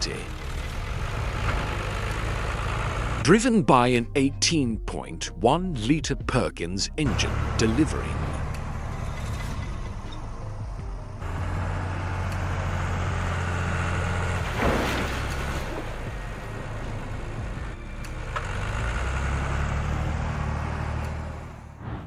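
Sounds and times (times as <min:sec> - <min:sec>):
diesel engine running: 0:00.0 - 0:04.3, 0:06.9 - 0:22.0.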